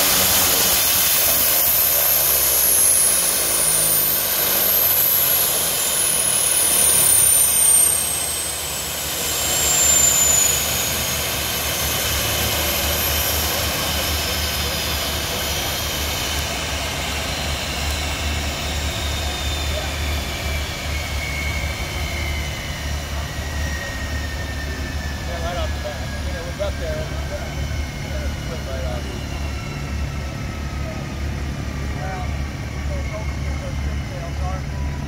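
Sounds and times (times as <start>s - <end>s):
low engine hum: 0.0s - 35.0s
turboprop turbine whine: 0.0s - 35.0s.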